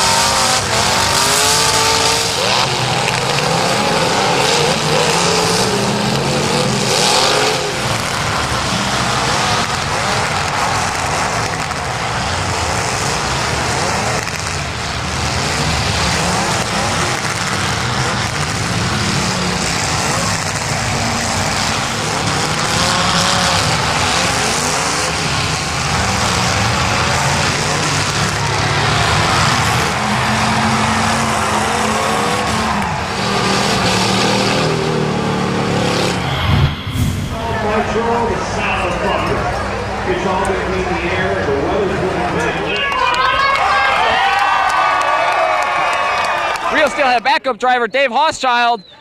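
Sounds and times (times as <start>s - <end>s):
car engines revving hard: 0.0s - 46.8s.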